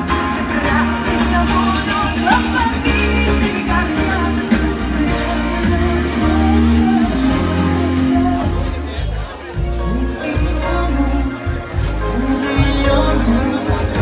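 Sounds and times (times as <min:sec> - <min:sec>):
woman singing: 0:00.0 - 0:08.7, 0:09.8 - 0:14.0
live band playing pop: 0:00.0 - 0:14.0.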